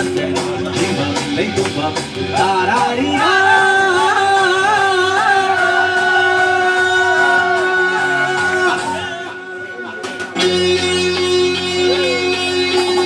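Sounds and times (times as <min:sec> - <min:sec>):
song with singer and instruments: 0:00.0 - 0:13.0.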